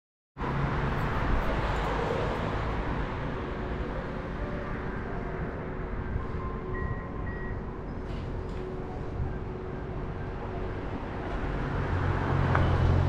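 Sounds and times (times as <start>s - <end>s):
street traffic noise: 0.4s - 13.0s.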